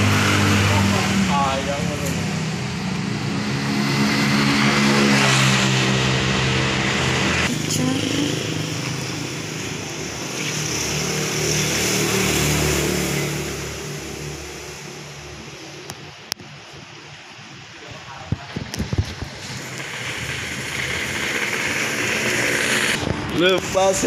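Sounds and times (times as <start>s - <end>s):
vehicle engine humming: 0.0s - 17.5s, 18.7s - 24.0s.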